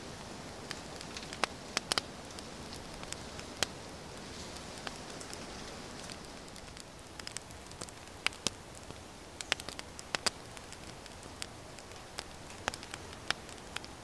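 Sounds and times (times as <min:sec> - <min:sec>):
sharp crackles and pops: 0:00.0 - 0:14.0
steady low hiss: 0:00.0 - 0:14.0.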